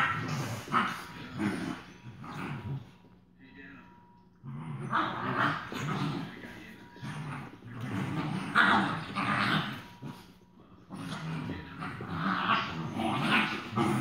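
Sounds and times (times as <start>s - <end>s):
puppies growling: 0.0s - 3.4s, 4.3s - 14.0s.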